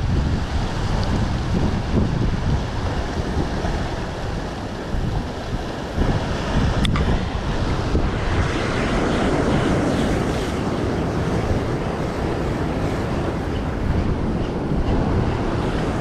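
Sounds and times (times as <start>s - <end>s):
sea surf breaking against rocks: 0.0s - 16.0s
wind buffeting microphone: 0.0s - 16.0s.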